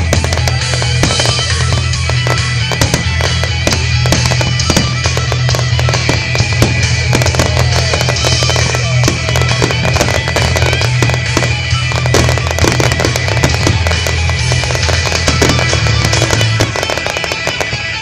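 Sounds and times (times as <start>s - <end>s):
fireworks bursting and crackling: 0.0s - 18.0s
loud music with bass: 0.0s - 18.0s.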